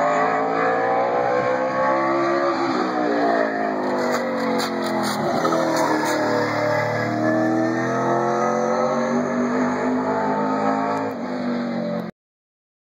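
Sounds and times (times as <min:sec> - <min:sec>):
race car engine passing: 0:00.0 - 0:12.0.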